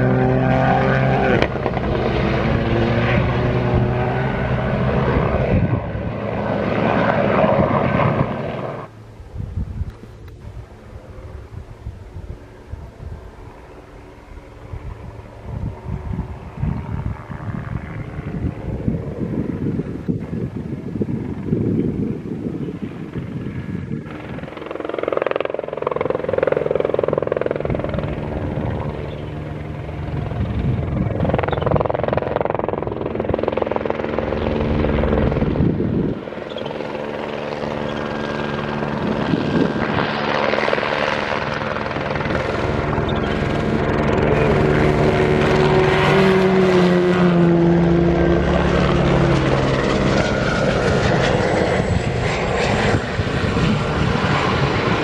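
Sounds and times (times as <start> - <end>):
helicopter rotor overhead: 0.0 - 55.0.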